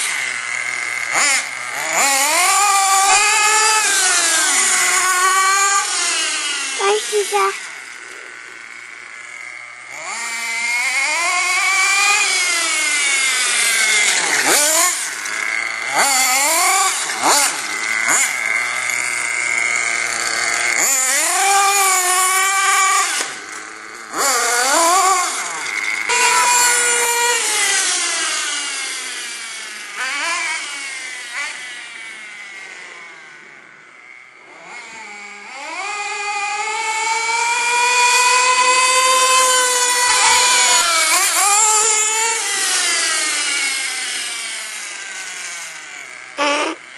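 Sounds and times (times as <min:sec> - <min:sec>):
rc car engine revving: 0:00.0 - 0:46.9.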